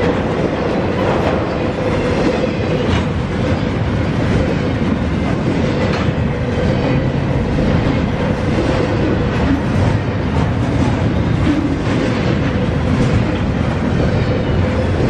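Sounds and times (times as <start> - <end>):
freight train wheels rumbling on rails: 0.0 - 15.0
wheels clicking over rail joints: 0.0 - 15.0.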